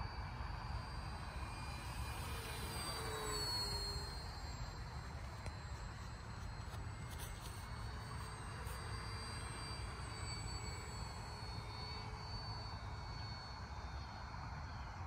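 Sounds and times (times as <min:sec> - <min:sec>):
model airplane motor whine: 0:00.0 - 0:15.0.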